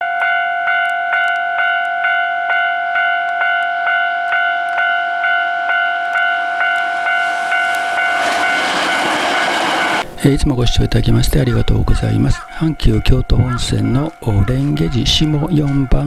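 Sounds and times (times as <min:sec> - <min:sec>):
level-crossing warning bell ringing: 0:00.0 - 0:16.0.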